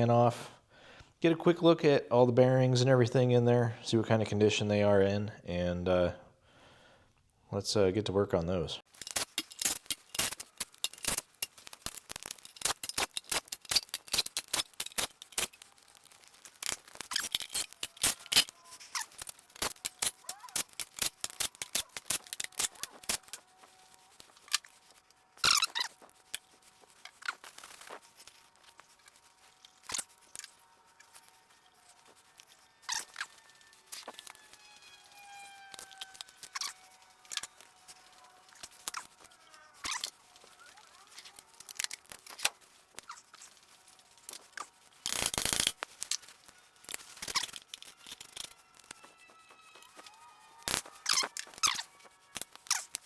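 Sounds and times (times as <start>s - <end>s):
hand ratchet clicking: 8.9s - 53.0s.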